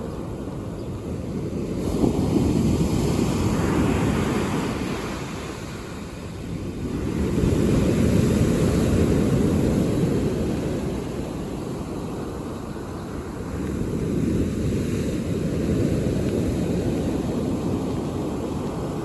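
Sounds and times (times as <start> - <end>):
waves breaking on pebble beach: 1.3 - 19.0.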